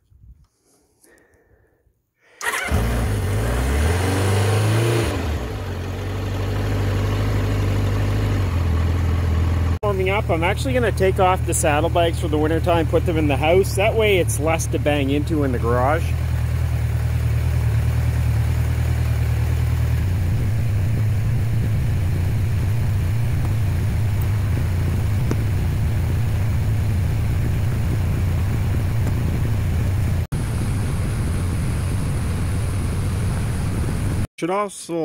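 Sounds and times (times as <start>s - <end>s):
motorcycle engine idling: 5.4s - 33.9s.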